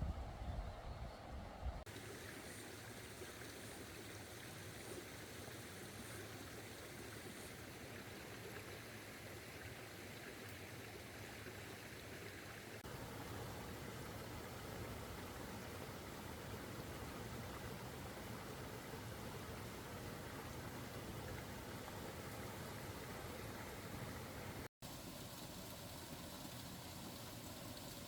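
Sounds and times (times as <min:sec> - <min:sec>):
stream water rushing: 0:01.9 - 0:28.0.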